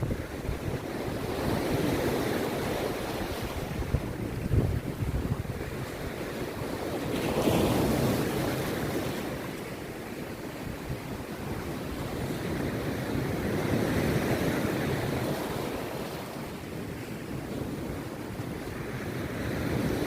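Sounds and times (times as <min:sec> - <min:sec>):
sea surf breaking on beach: 0:00.0 - 0:20.0
wind buffeting microphone: 0:00.0 - 0:20.0.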